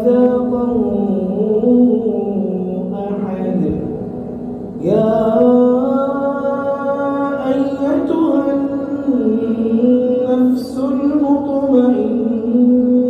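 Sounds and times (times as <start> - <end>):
man chanting melodically: 0.0 - 4.2, 4.8 - 13.0.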